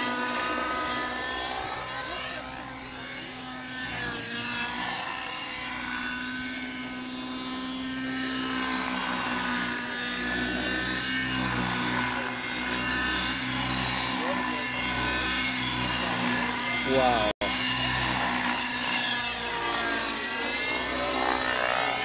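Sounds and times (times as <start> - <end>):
model helicopter engine and rotor: 0.0 - 22.0.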